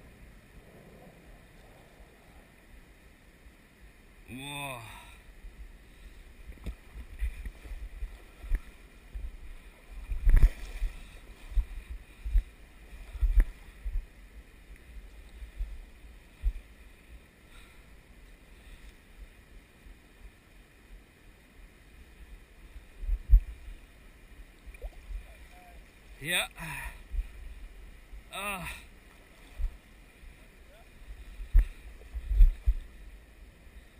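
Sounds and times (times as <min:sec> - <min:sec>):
river water running over rocks: 0:00.0 - 0:33.9.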